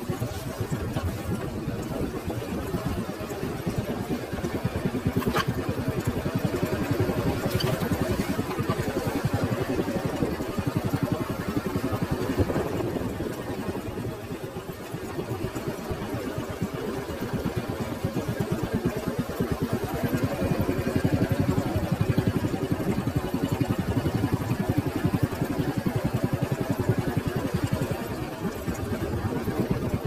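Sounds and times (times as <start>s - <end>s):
small motorcycle engine running: 0.0s - 30.0s.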